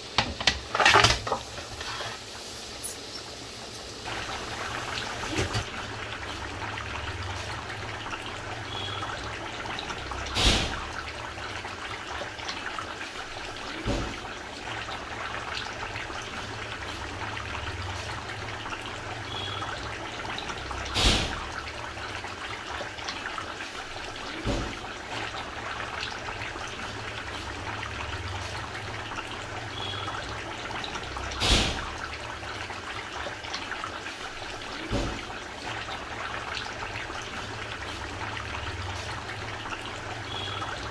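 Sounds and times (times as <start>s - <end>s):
running water trickling: 0.0s - 40.9s.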